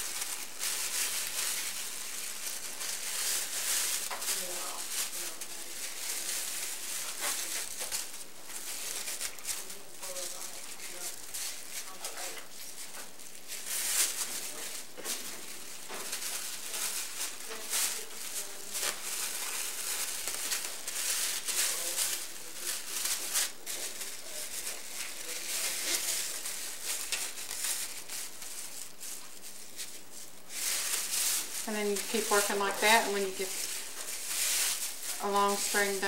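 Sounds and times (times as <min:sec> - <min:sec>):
plastic bag strips crinkling: 0:00.0 - 0:36.0.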